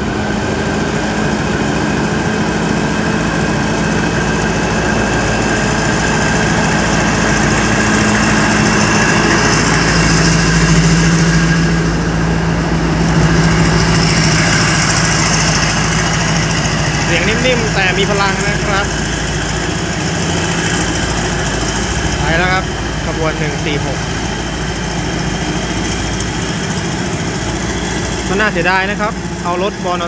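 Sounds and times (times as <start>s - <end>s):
locomotive diesel engine hum: 0.0s - 30.0s.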